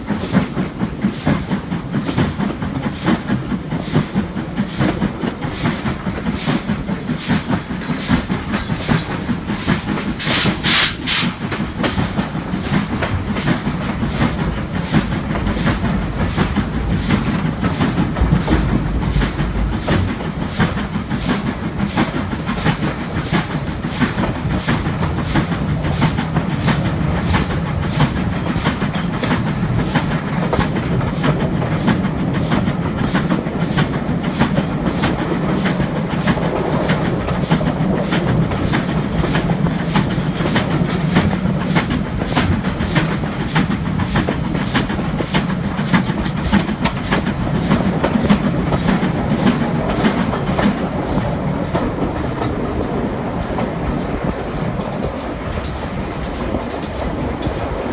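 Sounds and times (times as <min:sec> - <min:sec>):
steam locomotive exhaust beating: 0:00.0 - 0:57.9
steam hiss: 0:00.1 - 0:52.5
carriage wheels clattering on rails: 0:00.1 - 0:57.9.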